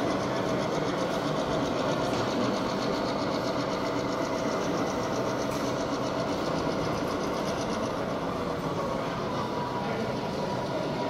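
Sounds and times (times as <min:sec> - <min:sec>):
model train humming and ticking: 0:00.0 - 0:11.0.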